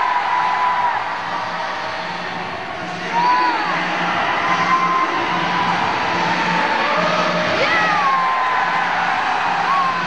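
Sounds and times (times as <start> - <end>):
crowd noise: 0.0 - 10.0.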